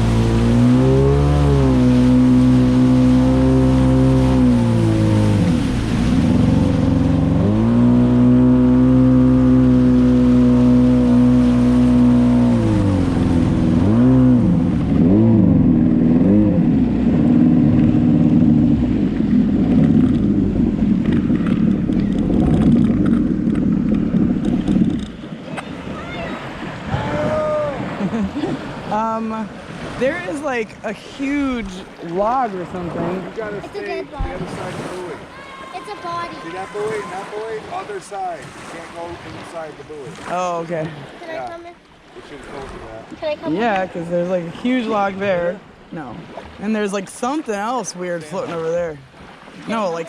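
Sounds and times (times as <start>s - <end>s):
jet ski engine revving: 0.0s - 50.0s.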